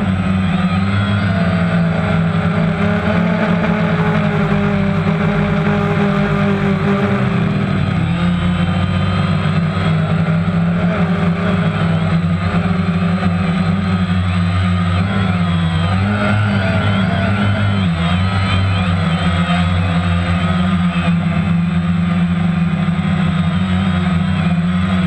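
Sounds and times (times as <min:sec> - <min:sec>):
drone propellers buzzing: 0:00.0 - 0:25.0.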